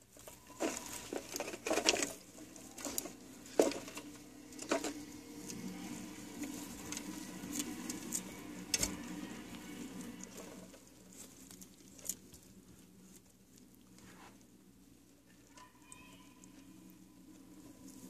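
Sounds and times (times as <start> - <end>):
scrabbling on bark chips: 0.0 - 14.5.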